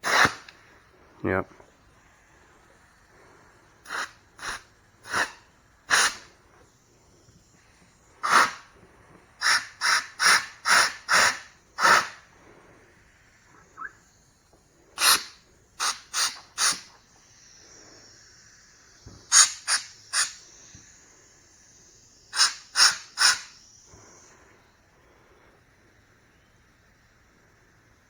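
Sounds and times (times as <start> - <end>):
air blowgun hissing puffs: 0.0 - 28.0.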